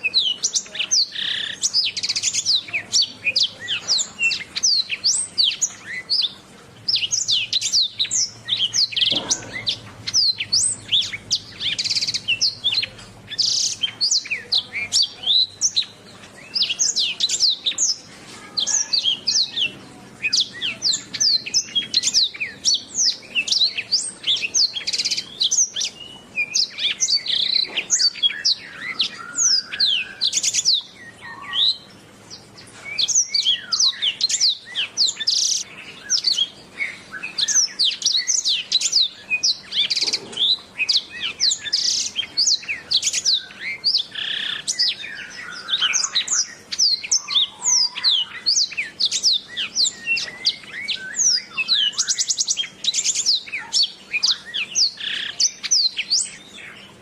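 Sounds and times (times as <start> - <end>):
canary singing chirps and trills: 0.0 - 57.0.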